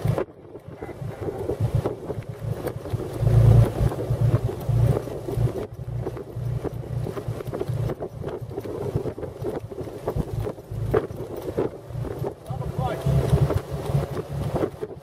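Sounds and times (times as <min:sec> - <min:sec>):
car engine running: 0:00.0 - 0:15.0
wind buffeting microphone: 0:00.0 - 0:15.0.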